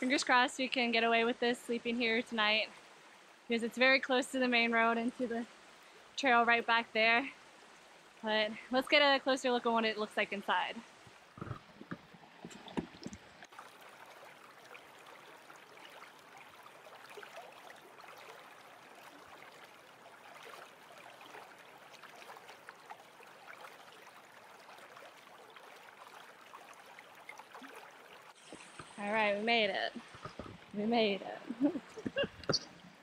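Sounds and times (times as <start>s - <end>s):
creek babbling over stones: 0.0s - 33.0s.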